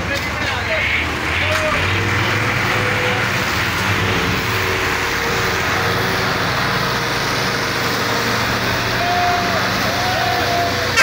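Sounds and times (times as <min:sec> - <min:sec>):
tractor diesel engines under load: 0:00.0 - 0:11.0.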